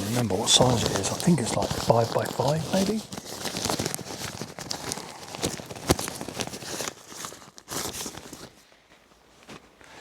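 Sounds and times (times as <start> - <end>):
camping gear rustling and crinkling: 0.0 - 10.0.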